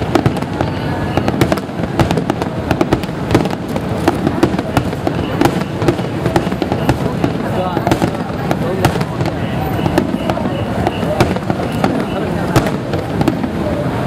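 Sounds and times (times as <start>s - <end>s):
firework shells bursting: 0.0s - 13.6s.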